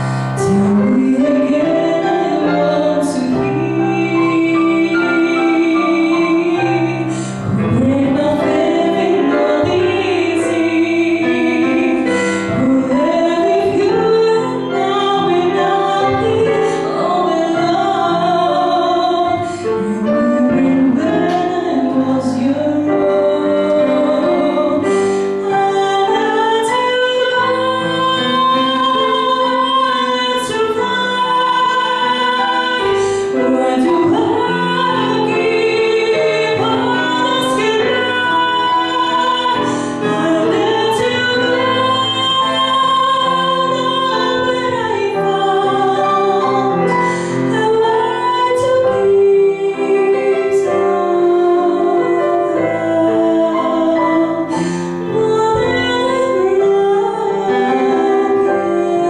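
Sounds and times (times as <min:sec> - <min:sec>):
digital piano chords: 0:00.0 - 0:59.0
woman singing a slow ballad: 0:00.0 - 0:59.0.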